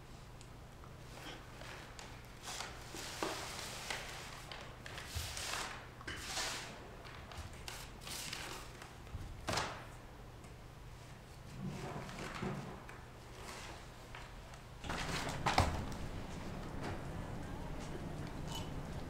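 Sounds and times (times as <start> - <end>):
papers rustling and sliding: 1.6 - 9.9, 11.6 - 19.0.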